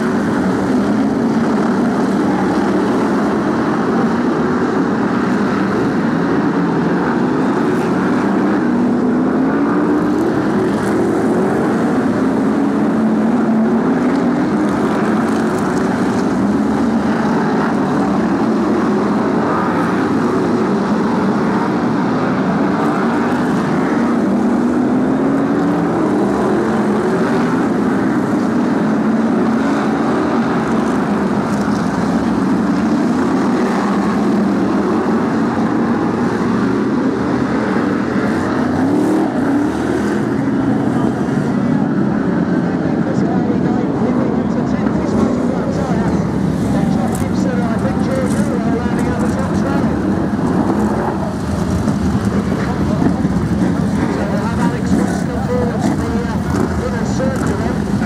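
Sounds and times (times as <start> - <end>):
racing car engines accelerating: 0.0 - 58.0.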